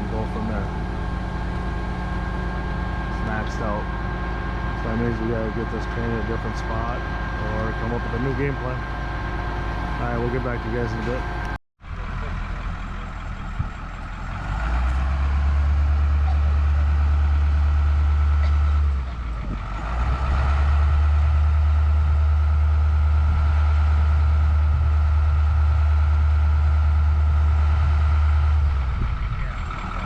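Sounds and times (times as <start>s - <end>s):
heavy diesel engine running hard: 0.0s - 30.0s.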